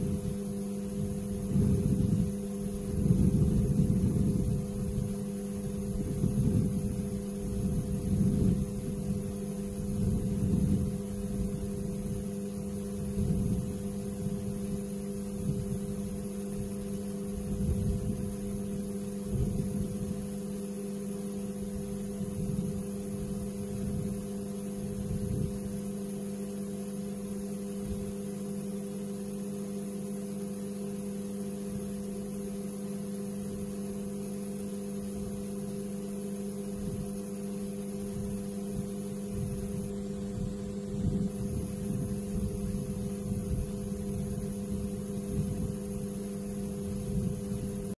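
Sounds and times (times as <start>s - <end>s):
steady electrical hum: 0.0s - 47.9s.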